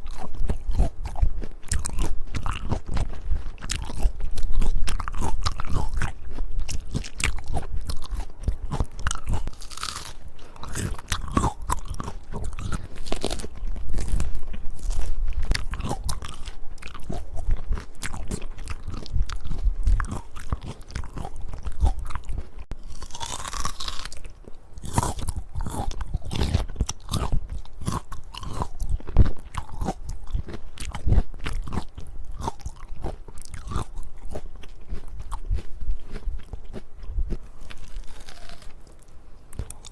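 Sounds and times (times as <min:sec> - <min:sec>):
crunchy biting and chewing: 0:00.0 - 0:39.9.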